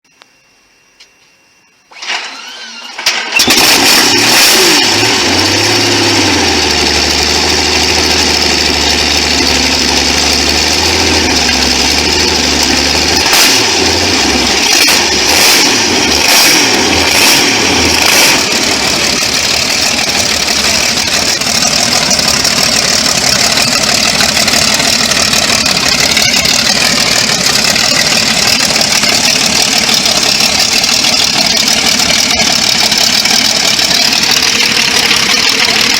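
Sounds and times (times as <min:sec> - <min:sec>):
engine running: 0:01.9 - 0:35.9
engine short sharp bursts: 0:01.9 - 0:35.9.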